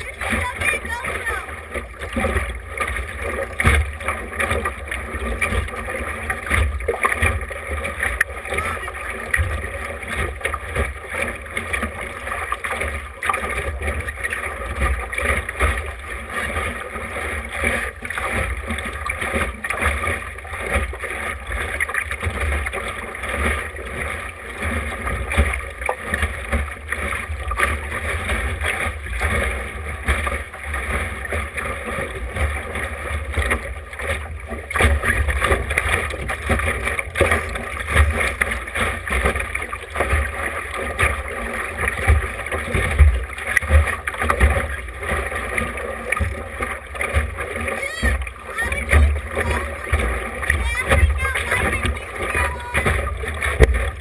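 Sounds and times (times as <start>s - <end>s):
water slapping against hull: 0.0s - 54.0s.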